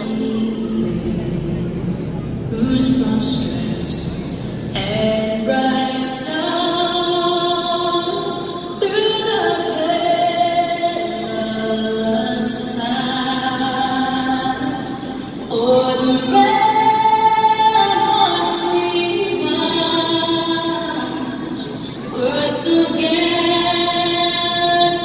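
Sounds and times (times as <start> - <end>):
woman singing unaccompanied: 0.0 - 1.7, 2.5 - 25.0.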